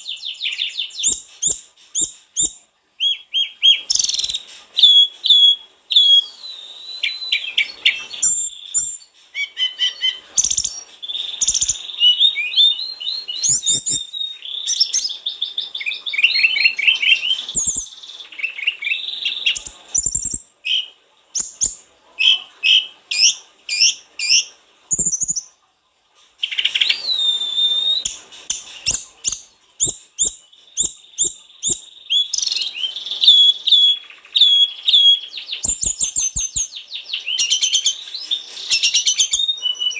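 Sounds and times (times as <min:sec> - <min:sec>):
songbird whistling and chirping: 0:00.0 - 0:25.6, 0:26.4 - 0:39.9.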